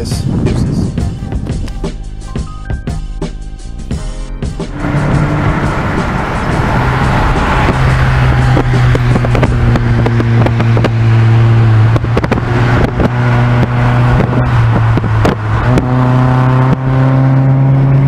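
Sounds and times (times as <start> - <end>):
wind buffeting microphone: 0.0 - 1.8, 3.6 - 18.0
car engine droning: 1.5 - 18.0.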